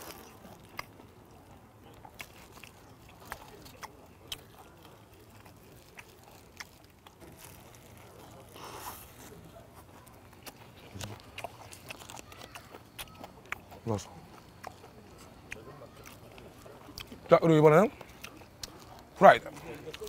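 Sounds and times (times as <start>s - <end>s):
chewing crunchy chicken: 0.0s - 20.0s.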